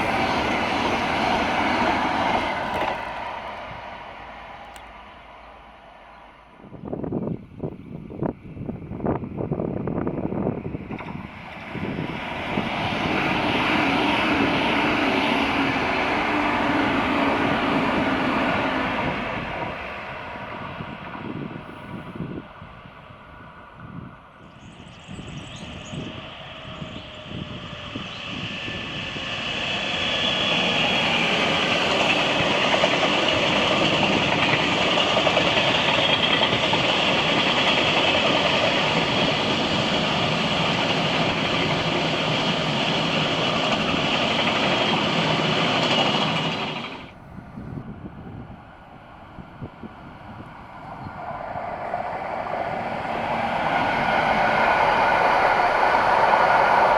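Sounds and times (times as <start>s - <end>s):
trains passing rumbling: 0.0s - 56.9s.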